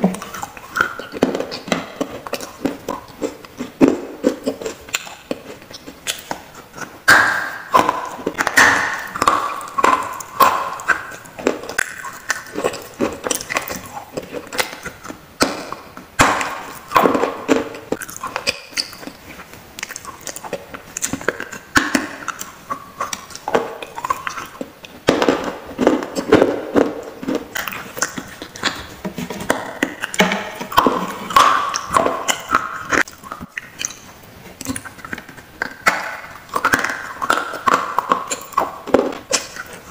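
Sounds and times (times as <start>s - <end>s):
crunching baked clay: 0.0s - 39.9s.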